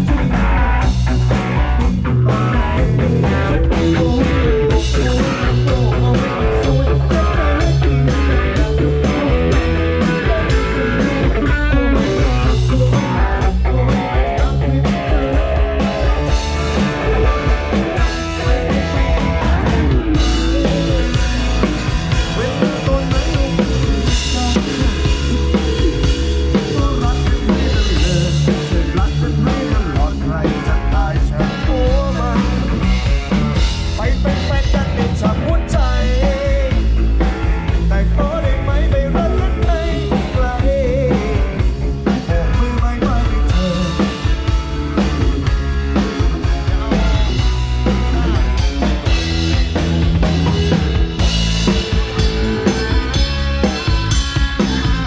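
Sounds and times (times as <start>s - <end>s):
drum kit: 0.0s - 55.0s
electric guitar: 0.0s - 55.0s
rock band playing: 0.0s - 55.0s.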